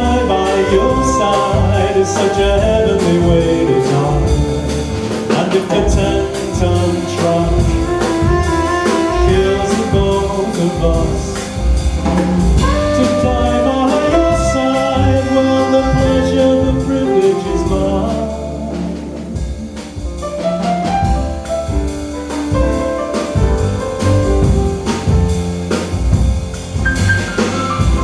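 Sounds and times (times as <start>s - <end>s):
pop band music with drums: 0.0s - 28.0s.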